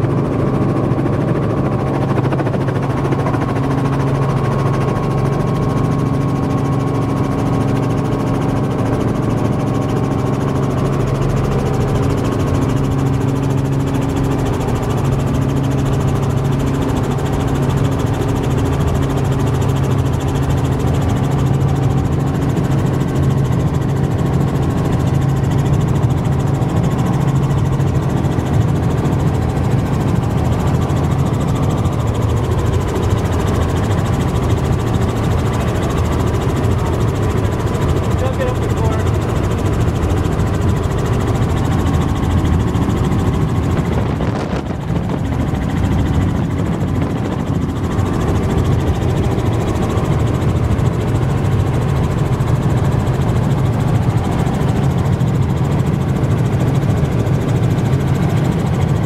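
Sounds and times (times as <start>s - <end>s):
helicopter engine and rotors drone: 0.0s - 59.0s.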